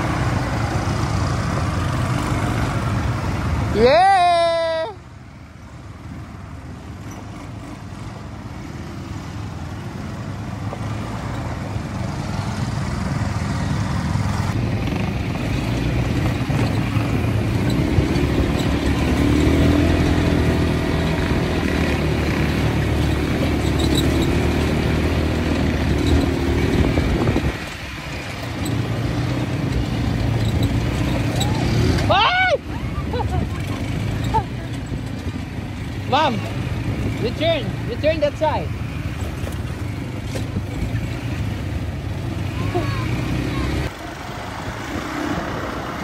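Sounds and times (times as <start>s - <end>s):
quad bike engines running: 0.0s - 46.0s.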